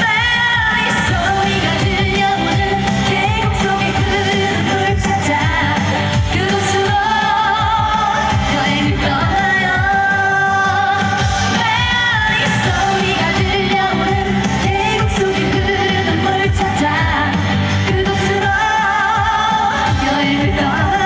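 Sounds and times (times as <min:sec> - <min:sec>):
person singing over a beat: 0:00.0 - 0:21.0.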